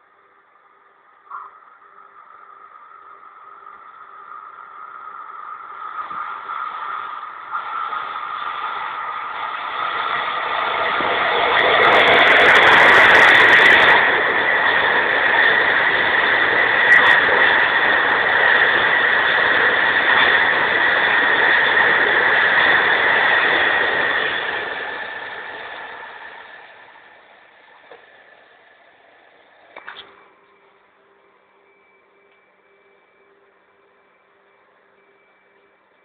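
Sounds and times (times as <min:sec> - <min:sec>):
train wheels rumbling on rails: 0:01.1 - 0:30.4
high squeal: 0:01.3 - 0:30.9.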